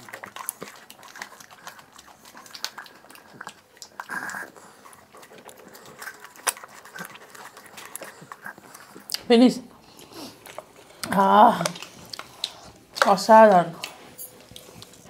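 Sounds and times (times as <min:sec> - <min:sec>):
slurping and lip-smacking: 0:00.0 - 0:13.1.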